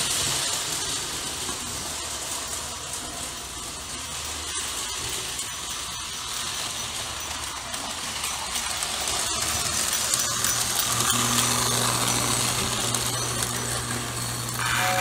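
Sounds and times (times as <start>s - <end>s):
toy train motor whirring: 0.0s - 15.0s
toy train wheels clattering: 0.0s - 15.0s.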